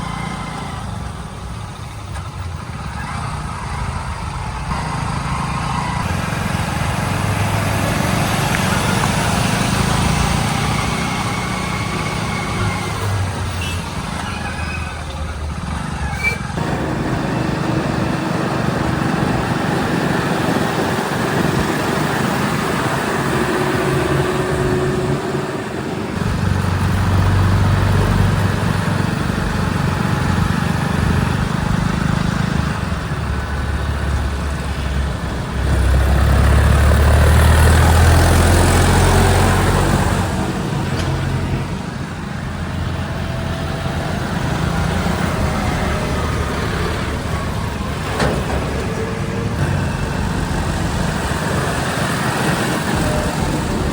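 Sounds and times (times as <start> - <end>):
heavy diesel engines running: 0.0 - 53.9.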